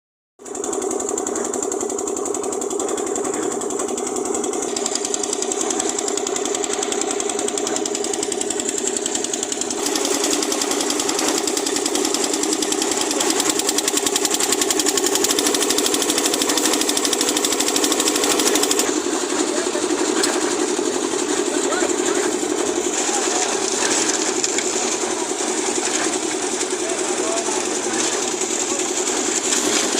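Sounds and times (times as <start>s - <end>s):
concrete mixer clattering: 0.4s - 29.9s.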